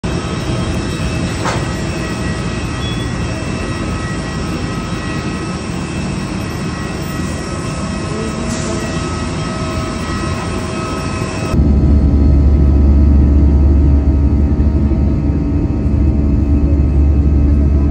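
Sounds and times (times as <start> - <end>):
jet turbine roaring and whining: 0.0 - 17.9.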